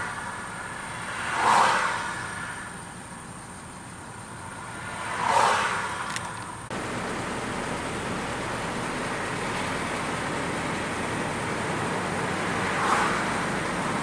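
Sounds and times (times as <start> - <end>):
steady road noise: 0.0 - 14.0
vehicles passing by: 0.0 - 14.0.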